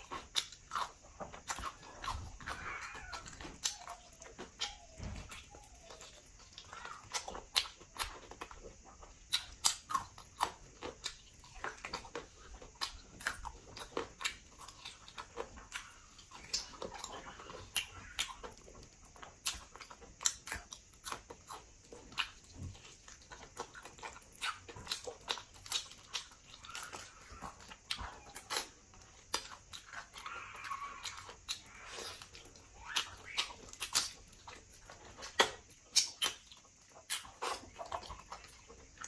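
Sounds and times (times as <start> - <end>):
person chewing: 0.0 - 39.0.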